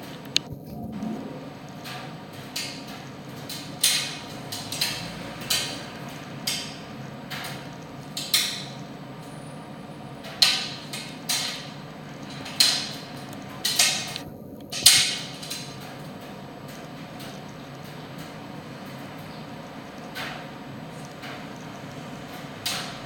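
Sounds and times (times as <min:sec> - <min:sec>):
tumble dryer drum humming: 0:00.0 - 0:23.0.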